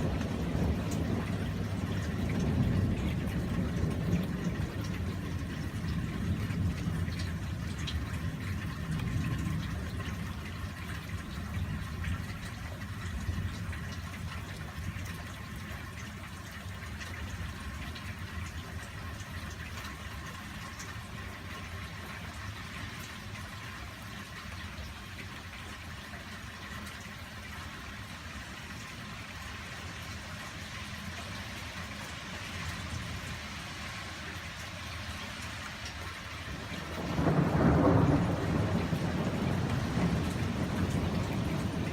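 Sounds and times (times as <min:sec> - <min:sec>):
low steady rumble: 0:00.0 - 0:41.9
steady rain falling: 0:00.0 - 0:41.9.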